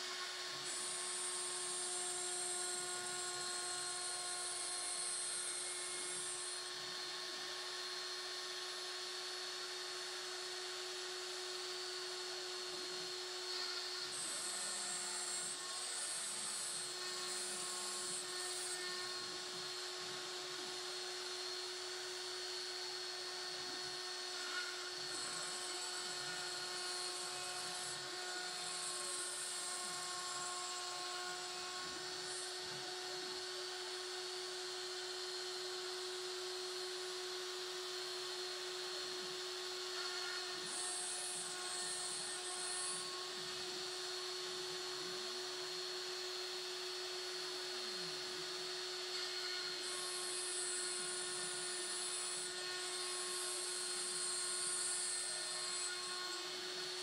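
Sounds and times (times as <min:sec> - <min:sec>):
milling motor cutting wood: 0:00.0 - 0:57.0.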